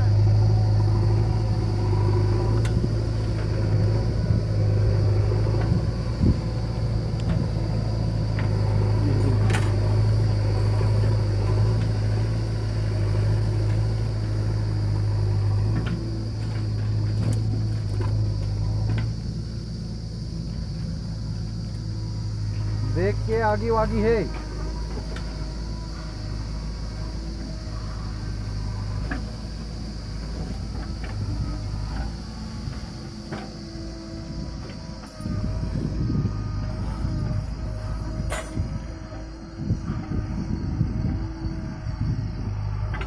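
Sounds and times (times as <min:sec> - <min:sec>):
diesel engines idling: 0:00.0 - 0:43.0.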